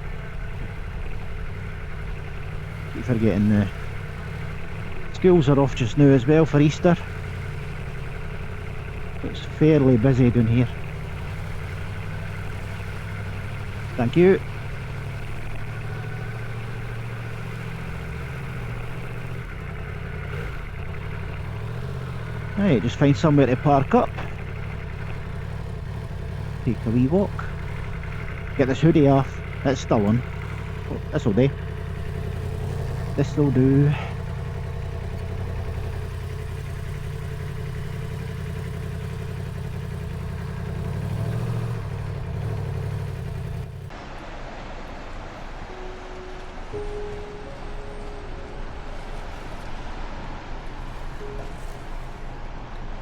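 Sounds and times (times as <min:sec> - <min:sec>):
motorcycle engine running at low revs: 0:00.0 - 0:44.7, 0:45.6 - 0:53.0.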